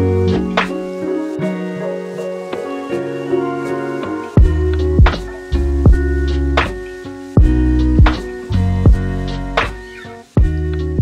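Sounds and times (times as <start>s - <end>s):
lo-fi hip-hop music: 0.0s - 11.0s.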